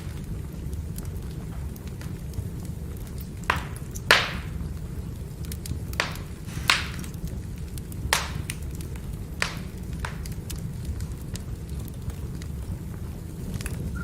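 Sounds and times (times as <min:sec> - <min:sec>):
burning firewood crackling: 0:00.0 - 0:14.0.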